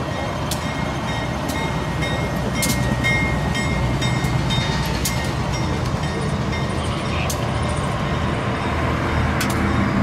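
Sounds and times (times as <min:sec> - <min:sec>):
diesel railcar rumble: 0:00.0 - 0:10.0.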